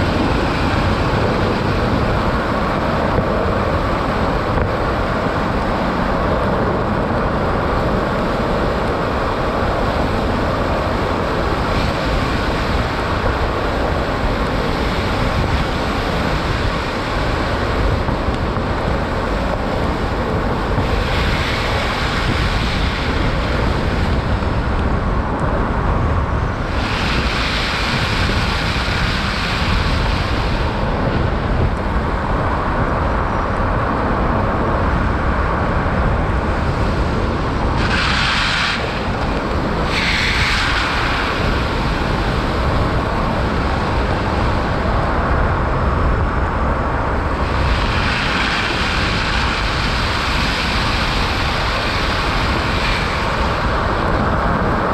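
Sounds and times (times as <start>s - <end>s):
road and wind noise: 0.0s - 54.9s.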